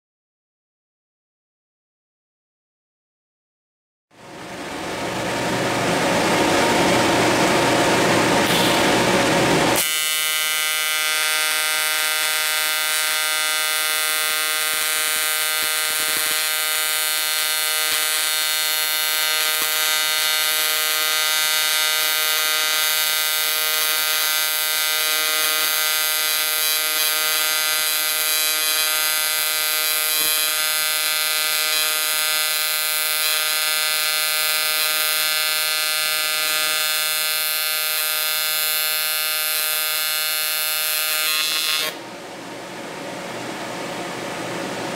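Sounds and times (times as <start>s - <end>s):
welding arc buzzing: 4.8s - 42.2s.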